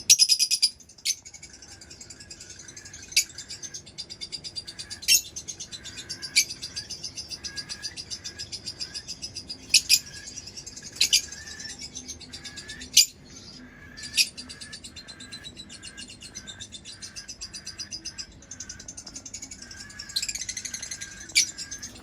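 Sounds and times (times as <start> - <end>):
loud sharp bird calls: 0.0 - 22.0
lovebirds chirping: 0.0 - 22.0.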